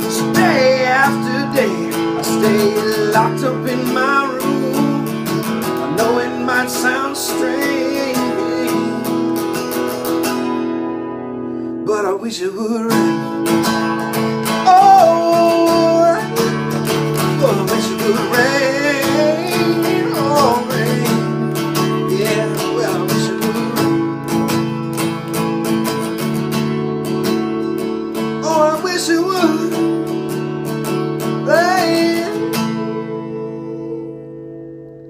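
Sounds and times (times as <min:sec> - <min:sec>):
person singing: 0:00.0 - 0:10.0, 0:11.8 - 0:24.8, 0:28.0 - 0:34.8
strummed acoustic guitar: 0:00.0 - 0:35.0.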